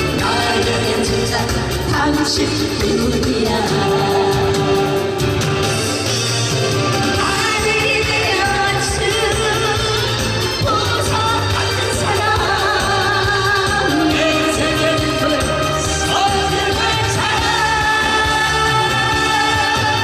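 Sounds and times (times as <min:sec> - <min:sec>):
man and woman singing duet: 0:00.0 - 0:05.3, 0:07.1 - 0:20.0
instrumental accompaniment: 0:00.0 - 0:20.0.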